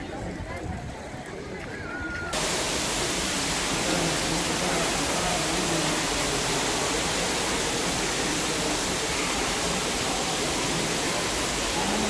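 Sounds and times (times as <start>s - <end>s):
faint indistinct voices: 0.0s - 12.0s
water jets rushing: 2.3s - 12.0s.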